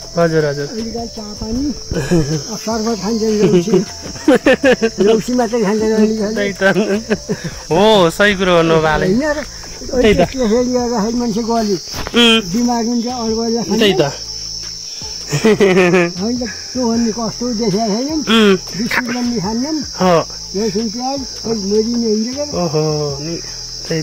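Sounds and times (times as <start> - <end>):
man talking: 0.0 - 14.2, 16.0 - 24.0
high-pitched insect chorus: 0.0 - 24.0.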